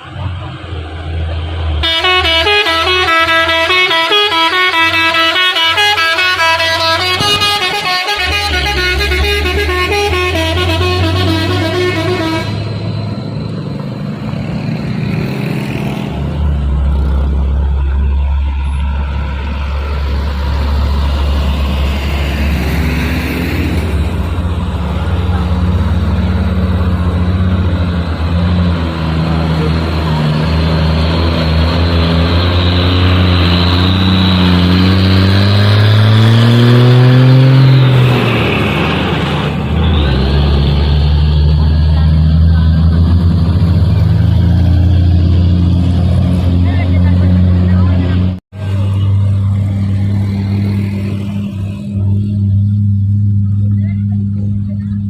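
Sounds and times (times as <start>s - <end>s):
truck diesel engine climbing: 0.0s - 55.0s.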